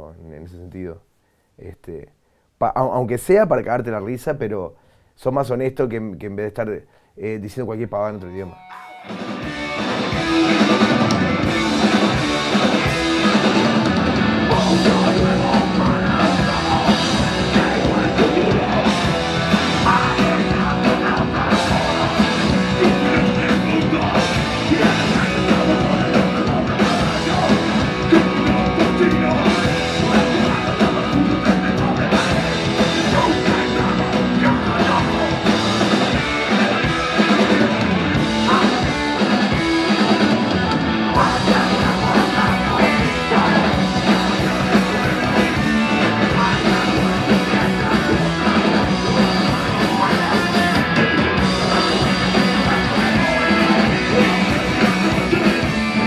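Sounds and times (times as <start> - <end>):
rock band playing punk metal: 8.6 - 56.0.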